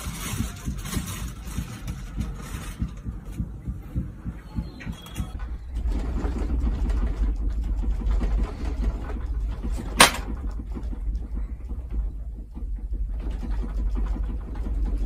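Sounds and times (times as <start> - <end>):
objects rattling: 0.0 - 3.6, 4.6 - 15.0
low earthquake rumble: 0.0 - 15.0.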